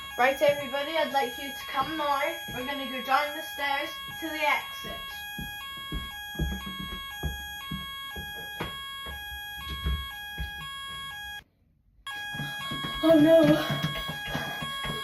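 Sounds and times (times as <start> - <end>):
continuous alarm tone: 0.0 - 11.4, 12.1 - 15.0
footsteps thumping: 0.0 - 11.4, 12.1 - 15.0
two-tone fire alarm: 0.0 - 11.4, 12.1 - 15.0.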